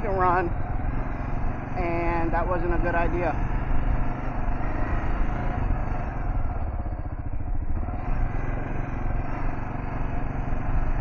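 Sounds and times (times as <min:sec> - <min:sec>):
motorcycle engine under throttle: 0:00.0 - 0:11.0.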